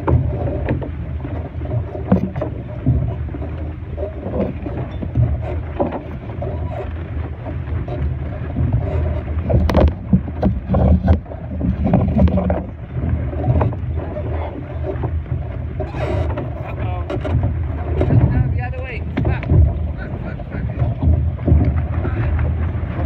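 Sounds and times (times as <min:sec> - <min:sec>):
sharp knocks and splashes: 0:00.0 - 0:23.0
water washing against boat: 0:00.0 - 0:23.0
wind rumbling on microphone: 0:00.0 - 0:23.0.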